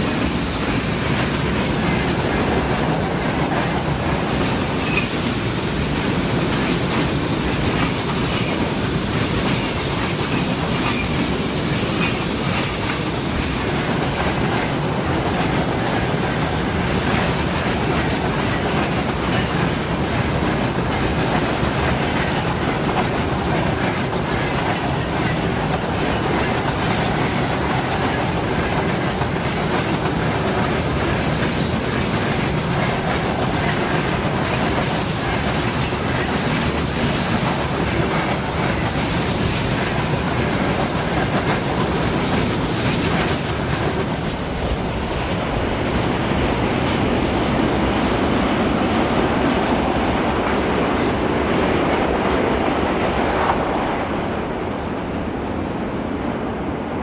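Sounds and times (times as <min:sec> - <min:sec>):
wheels clacking over rail joints: 0:00.0 - 0:53.8
freight train rolling past: 0:00.0 - 0:57.0.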